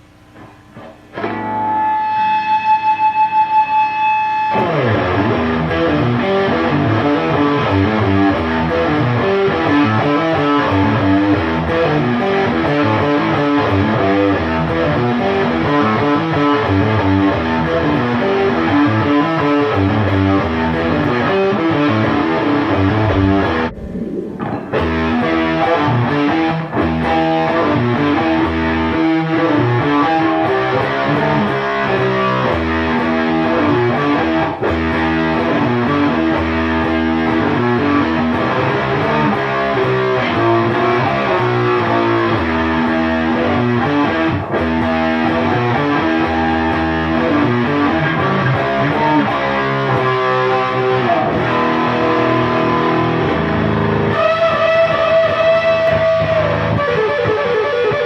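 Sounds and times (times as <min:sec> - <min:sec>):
fuzz electric guitar riffs: 0:00.0 - 0:58.0.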